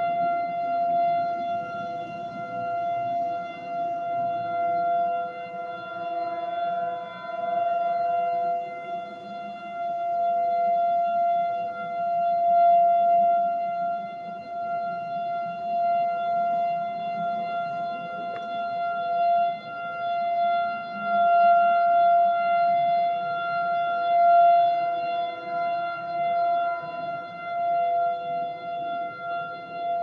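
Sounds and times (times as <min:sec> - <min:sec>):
warning siren steady tone: 0:00.0 - 0:30.0.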